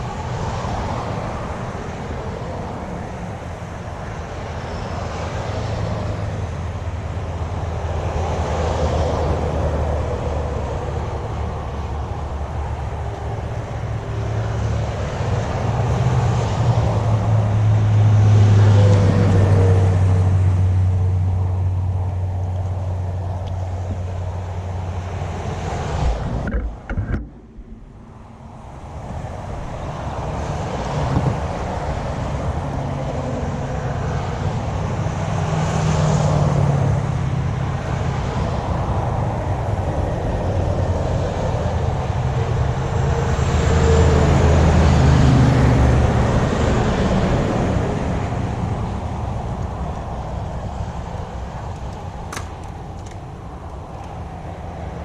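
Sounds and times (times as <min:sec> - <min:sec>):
heavy vehicles passing: 0:00.0 - 0:55.0
road traffic noise: 0:00.0 - 0:55.0.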